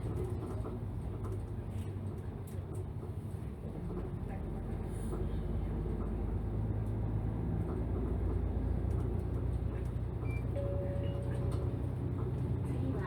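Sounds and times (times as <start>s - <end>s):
bus engine hum from inside: 0.0s - 13.0s.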